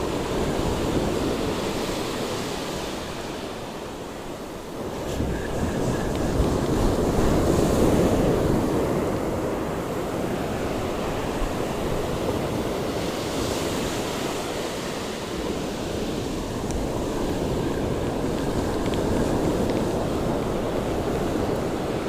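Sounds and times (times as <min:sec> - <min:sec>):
ocean surf washing onto beach: 0:00.0 - 0:22.0
wind buffeting microphone: 0:00.0 - 0:22.0.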